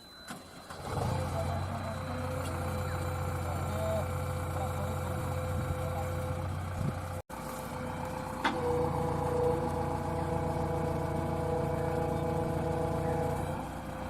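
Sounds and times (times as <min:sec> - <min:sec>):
diesel engine running: 0:00.3 - 0:14.0.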